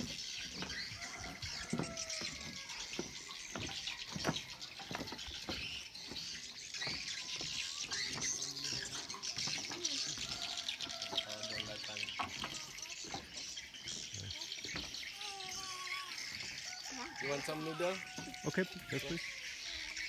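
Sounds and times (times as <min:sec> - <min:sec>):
footsteps on wooden boards: 0:00.0 - 0:19.8
birds chirping: 0:00.0 - 0:20.0.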